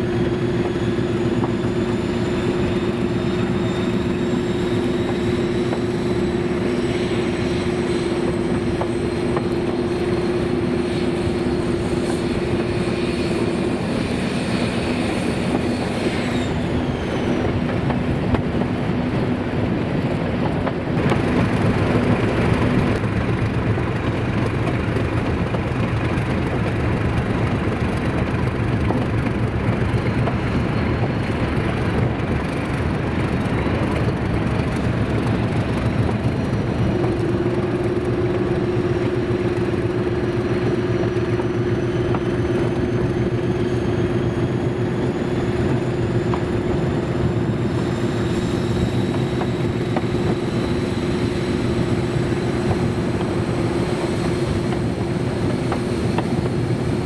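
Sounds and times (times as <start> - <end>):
diesel locomotive engine running: 0.0 - 57.0.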